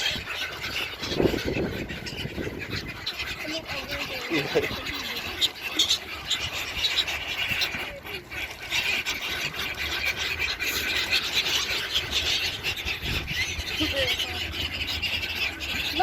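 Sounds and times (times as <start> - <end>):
seagulls squawking: 0.0 - 16.0.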